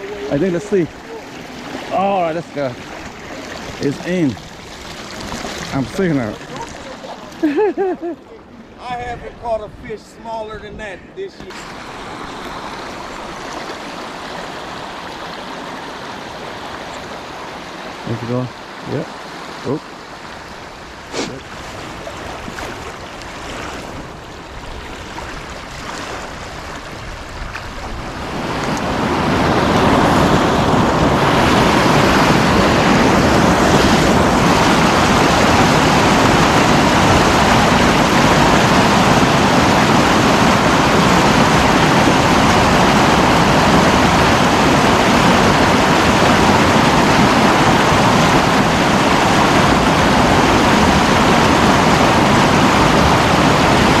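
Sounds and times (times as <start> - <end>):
river water rushing over dam: 0.0 - 7.6, 11.4 - 54.0.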